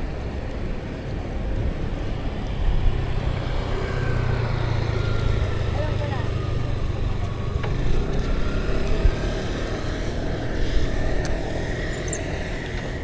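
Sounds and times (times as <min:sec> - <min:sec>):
motor vehicle rumbling: 0:00.0 - 0:13.0.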